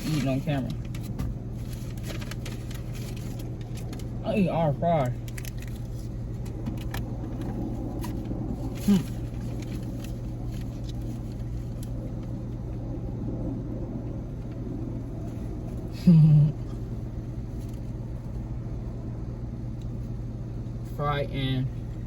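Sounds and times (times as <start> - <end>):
car cabin engine rumble: 0.0 - 22.0.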